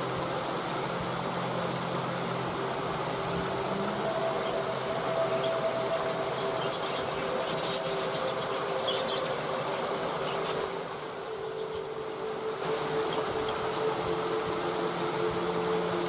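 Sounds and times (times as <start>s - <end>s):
calm background music: 0.0s - 16.0s
waterfall rushing: 0.0s - 16.0s.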